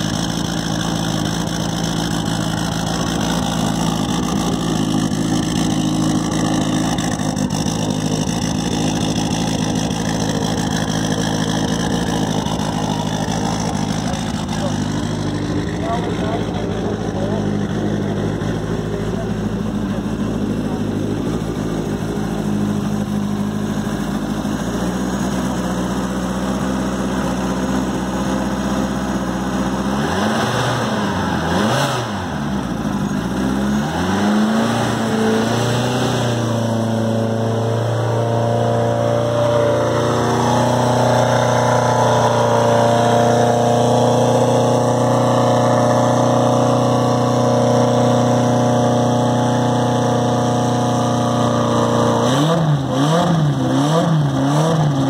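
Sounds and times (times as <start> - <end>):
rally car engine idling and revving: 0.0 - 55.0.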